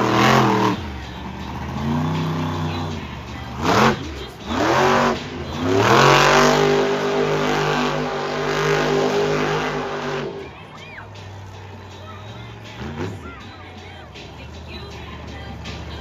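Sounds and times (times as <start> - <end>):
truck engine revving hard: 0.0 - 13.6, 14.2 - 16.0.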